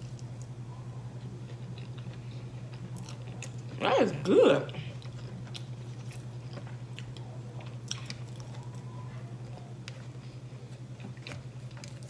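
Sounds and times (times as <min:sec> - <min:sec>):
chewing fried chicken: 0:00.0 - 0:12.0
steady low hum: 0:00.0 - 0:12.0.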